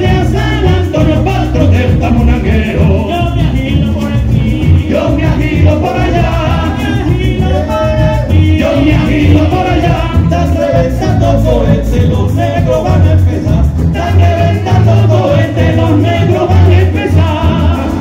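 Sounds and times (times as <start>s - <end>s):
bass: 0.0s - 18.0s
maracas shaking: 0.0s - 18.0s
men singing in harmony: 0.0s - 18.0s.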